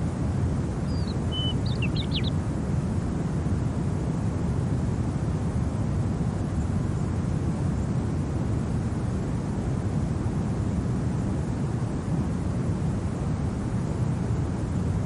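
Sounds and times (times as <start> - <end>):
low rushing wind: 0.0 - 15.0.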